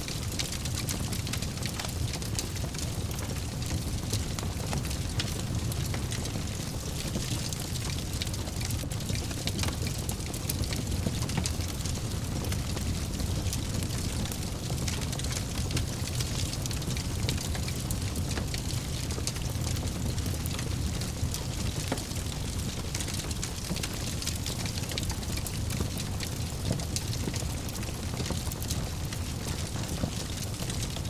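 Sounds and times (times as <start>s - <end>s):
fire crackling in fireplace: 0.0s - 31.0s.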